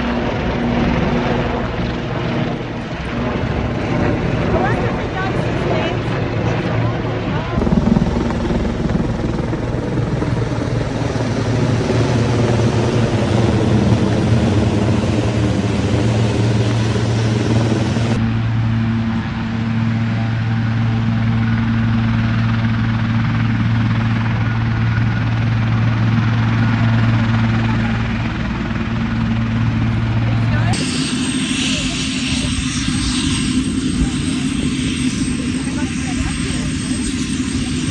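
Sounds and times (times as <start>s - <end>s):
helicopter engine and rotor drone: 0.0s - 37.9s.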